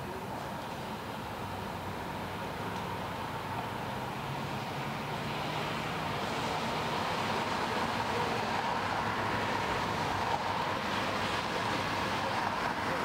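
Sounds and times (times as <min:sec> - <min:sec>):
street hiss and rumble: 0:00.0 - 0:13.0.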